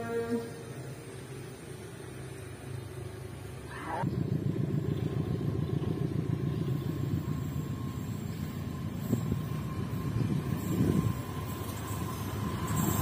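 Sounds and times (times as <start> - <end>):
high ringing tone from rails: 0.0 - 13.0
train low rumble: 0.0 - 13.0.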